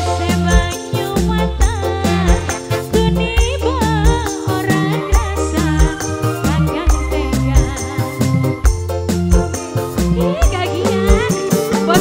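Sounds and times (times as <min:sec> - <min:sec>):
song with bass and drum beat: 0:00.0 - 0:12.0.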